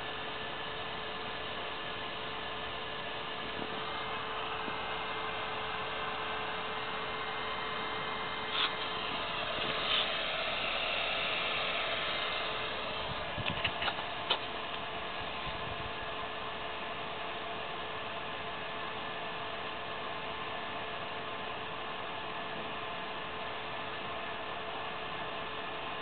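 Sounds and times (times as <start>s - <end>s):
blower fan humming: 0.0s - 26.0s.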